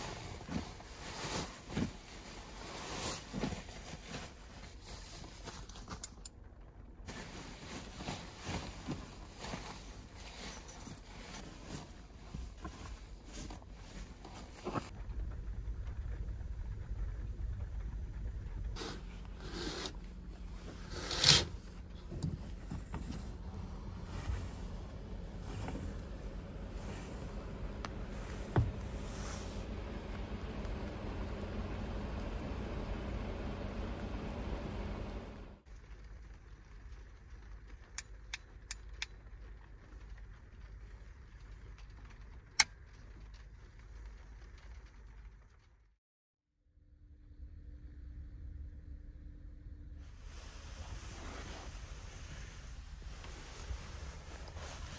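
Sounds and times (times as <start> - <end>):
low steady rumble: 0.0 - 46.0, 46.6 - 54.9.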